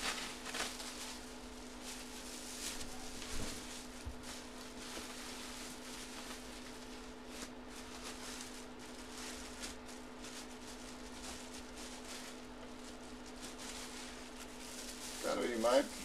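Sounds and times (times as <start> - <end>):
bubble wrap crinkling: 0.0 - 16.0
steady electrical hum: 0.0 - 16.0.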